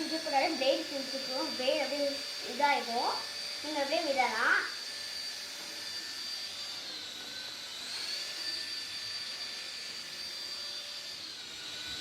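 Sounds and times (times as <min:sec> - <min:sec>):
toy helicopter rotor whine: 0:00.0 - 0:12.0.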